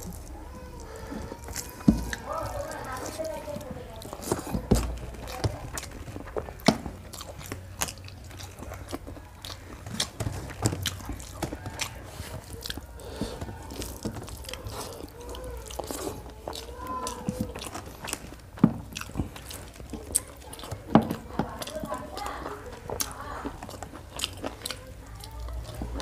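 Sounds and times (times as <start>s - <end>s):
close chewing with wet mouth clicks: 0.0s - 26.0s.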